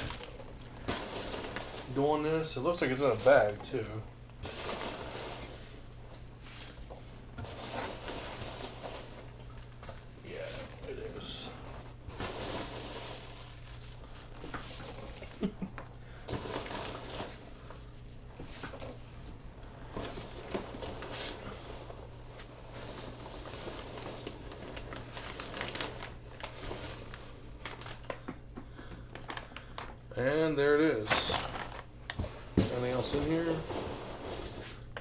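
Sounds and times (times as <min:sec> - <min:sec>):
packing peanuts rustling: 0:00.0 - 0:05.9, 0:06.5 - 0:30.0, 0:31.0 - 0:34.9
steady low hum: 0:00.0 - 0:35.0.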